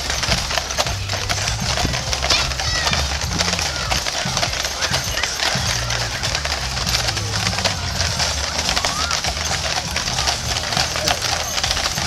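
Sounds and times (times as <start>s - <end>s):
horse hooves clip-clopping on asphalt: 0.0s - 12.0s.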